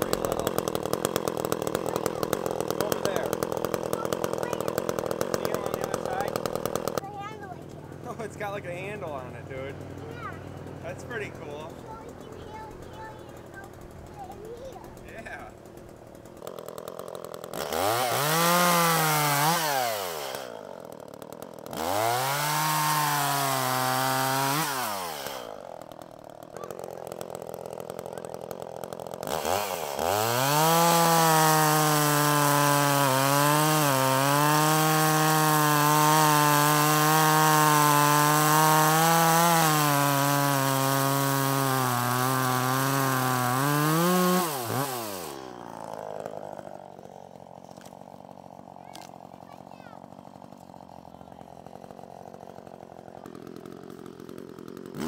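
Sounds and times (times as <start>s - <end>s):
chainsaw revving and cutting log: 0.0s - 55.0s.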